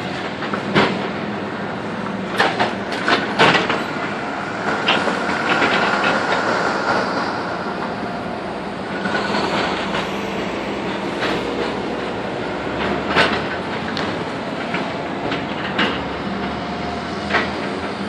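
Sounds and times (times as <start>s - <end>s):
excavator running with whine: 0.0s - 18.0s.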